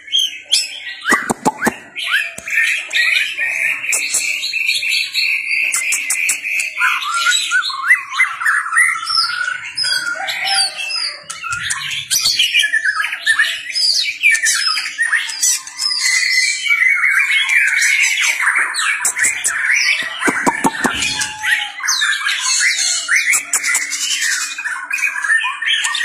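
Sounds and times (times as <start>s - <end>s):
bird singing whistles and trills: 0.0s - 26.0s.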